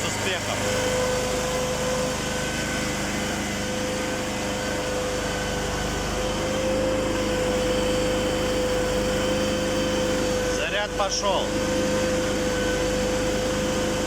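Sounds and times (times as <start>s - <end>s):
generator whine: 0.0s - 14.0s
petrol generator running: 0.0s - 14.0s.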